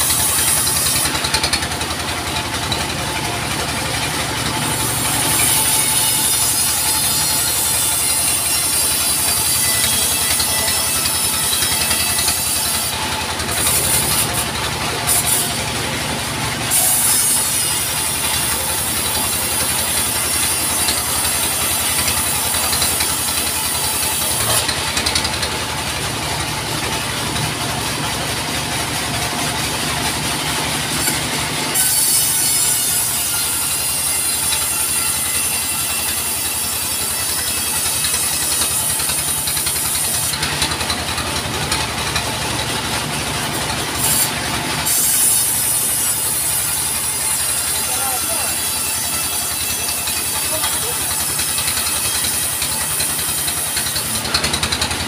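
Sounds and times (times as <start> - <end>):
band saw blade cutting log: 0.0 - 55.0
sawmill engine droning: 0.0 - 55.0.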